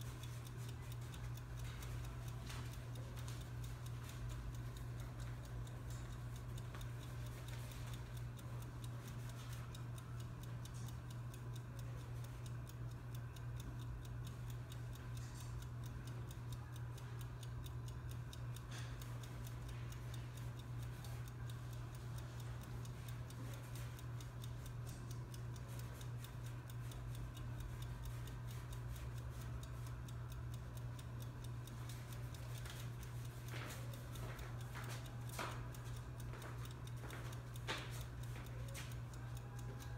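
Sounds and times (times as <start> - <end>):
fast faint ticking: 0.0 - 39.9
steady low hum: 0.0 - 39.9.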